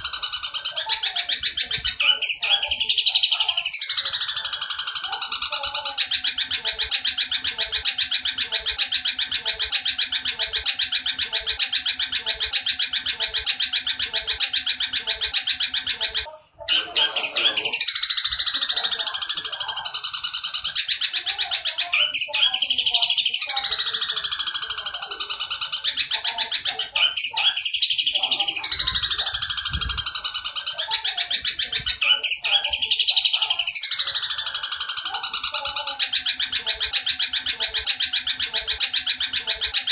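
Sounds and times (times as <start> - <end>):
bird harsh chattering calls: 0.0 - 39.9.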